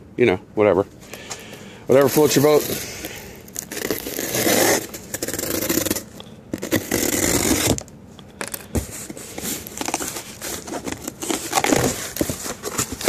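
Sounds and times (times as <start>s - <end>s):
packing tape peeling off cardboard: 2.0s - 13.0s.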